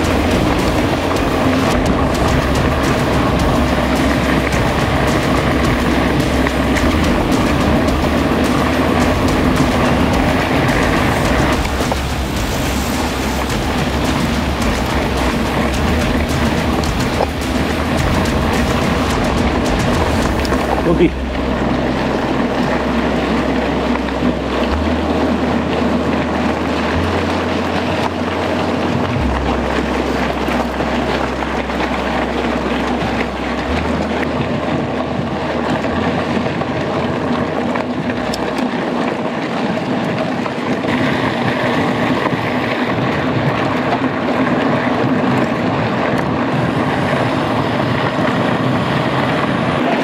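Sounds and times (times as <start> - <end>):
bike tyre and drivetrain noise: 0.0 - 50.0
low humming tone: 0.0 - 50.0
wind rushing over microphone: 0.0 - 50.0.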